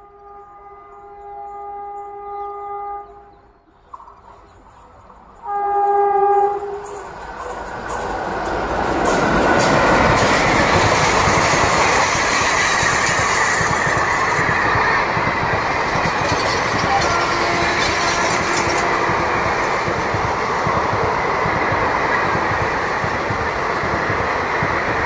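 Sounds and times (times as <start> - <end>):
train passing at speed: 3.1 - 25.0.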